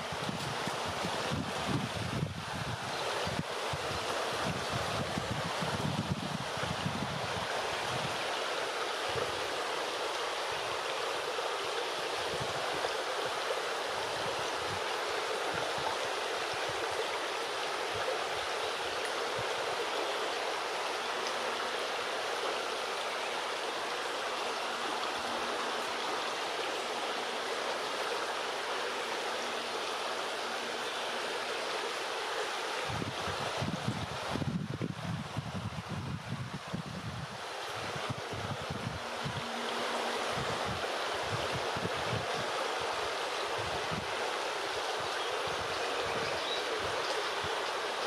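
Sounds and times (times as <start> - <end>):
river rushing over stones: 0.0 - 48.0.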